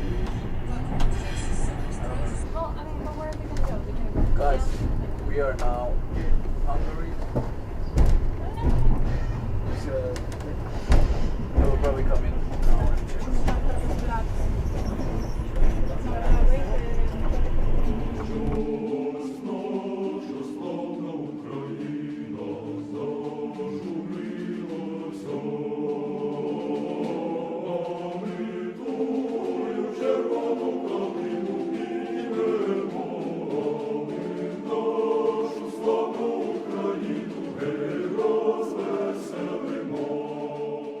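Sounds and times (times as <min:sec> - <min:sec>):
choir singing held chords: 0:00.0 - 0:41.0.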